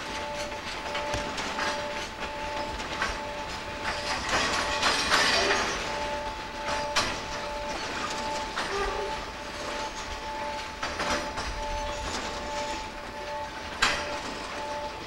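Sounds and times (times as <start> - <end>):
freight wagons rolling slowly: 0.0 - 15.0.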